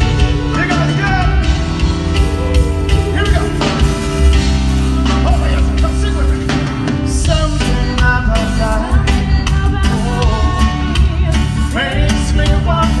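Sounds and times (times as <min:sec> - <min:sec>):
amplified band music: 0:00.0 - 0:13.0
person singing: 0:00.0 - 0:13.0.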